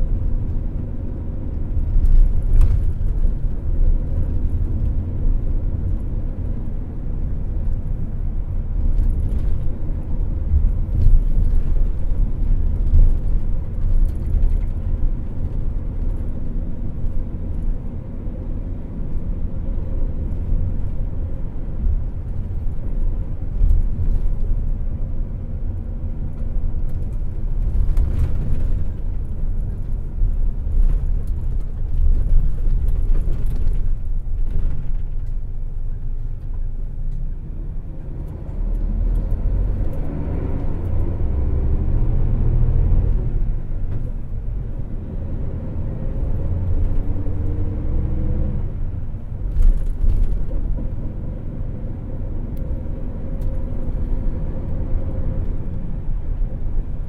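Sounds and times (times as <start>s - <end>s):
coach engine and road rumble: 0.0s - 57.0s.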